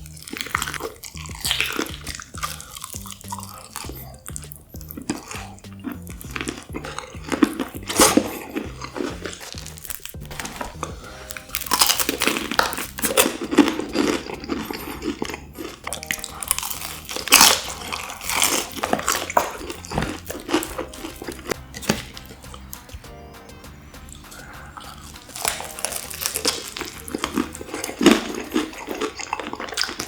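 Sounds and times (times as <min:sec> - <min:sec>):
crunching bite: 0:00.0 - 0:23.0, 0:24.0 - 0:30.0
chewing: 0:00.0 - 0:23.1, 0:23.8 - 0:30.0.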